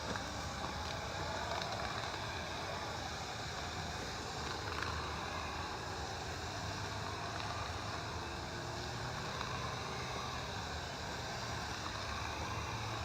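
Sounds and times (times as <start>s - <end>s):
hissing water spray: 0.0s - 13.0s.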